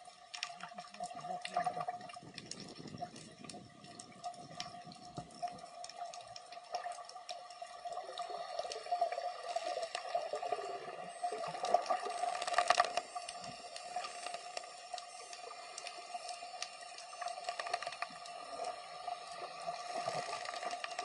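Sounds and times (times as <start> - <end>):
muffled underwater wash: 0.0 - 21.0
sharp clicks and crackles: 0.0 - 21.0.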